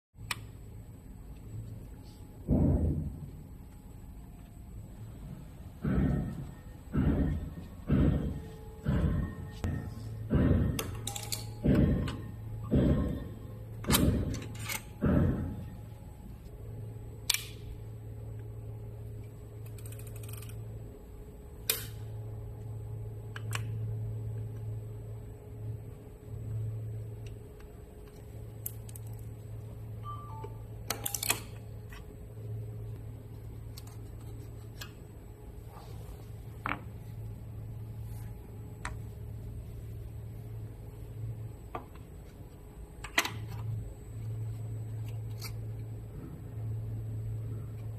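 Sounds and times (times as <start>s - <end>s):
low hum: 0.2s - 47.9s.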